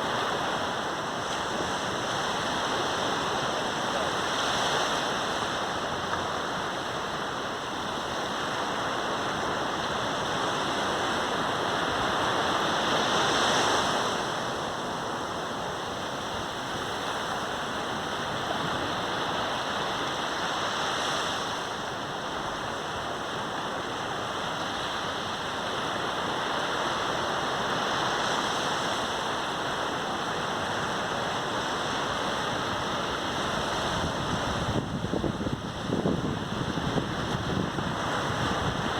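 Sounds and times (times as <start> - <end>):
sea waves washing onto beach: 0.0 - 38.9.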